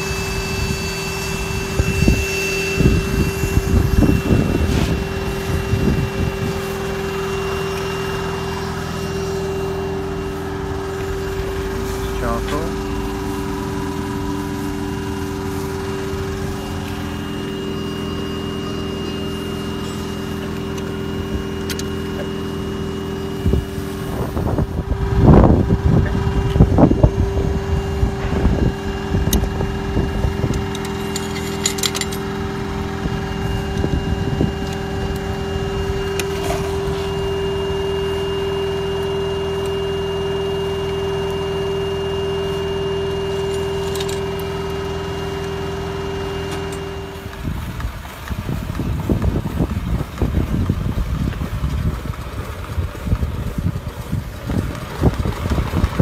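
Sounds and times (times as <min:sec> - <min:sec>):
electric blower fan humming: 0:00.0 - 0:56.0.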